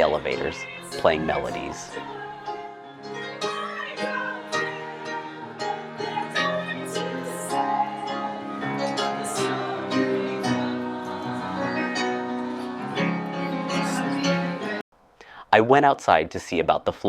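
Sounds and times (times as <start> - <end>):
piano melody: 0.0 - 14.8.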